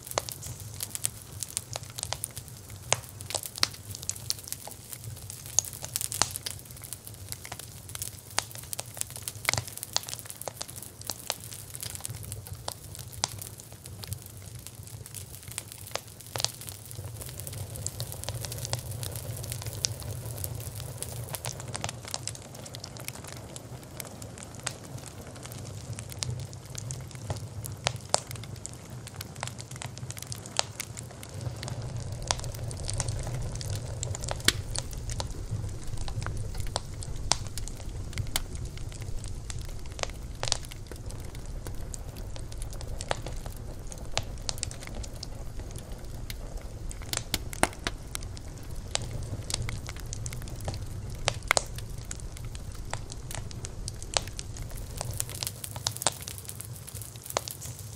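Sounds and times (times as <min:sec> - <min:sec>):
low rumble of flames: 0:00.0 - 0:57.9
wood crackling and popping: 0:00.0 - 0:57.9.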